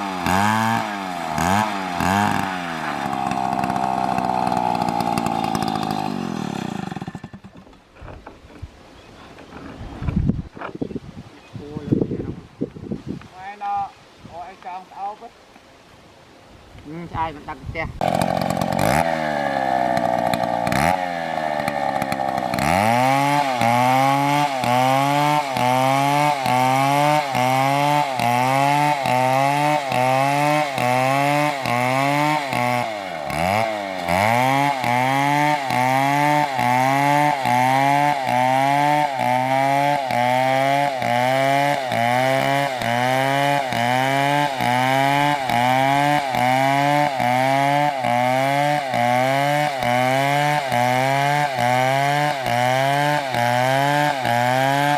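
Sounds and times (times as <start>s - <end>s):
chainsaw cutting tree trunk: 0.0s - 7.9s, 18.0s - 54.9s.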